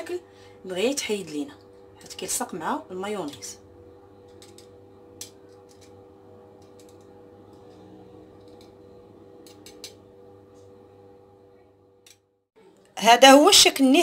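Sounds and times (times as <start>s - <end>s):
steady hum: 0.0s - 13.7s.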